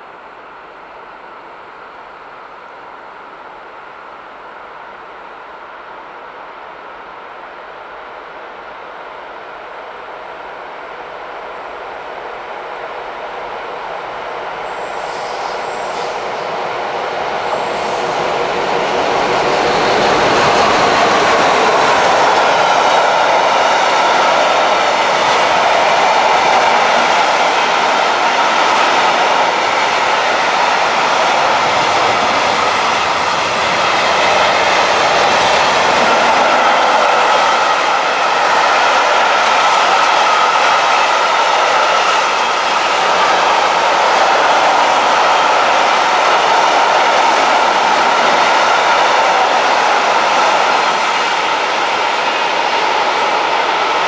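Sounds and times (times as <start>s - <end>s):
freight train wheel-on-rail noise: 0.0s - 54.0s.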